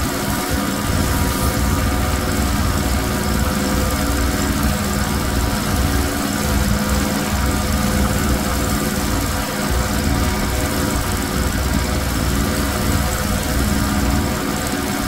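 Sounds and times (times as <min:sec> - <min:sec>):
pressure washer engine drone: 0:00.0 - 0:15.0.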